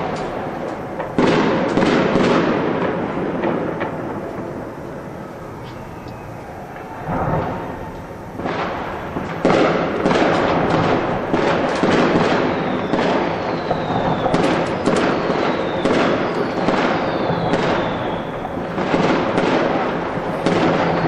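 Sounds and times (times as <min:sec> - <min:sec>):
falling firework whistles: 0:00.0 - 0:21.0
fireworks crackling and banging: 0:00.0 - 0:21.0.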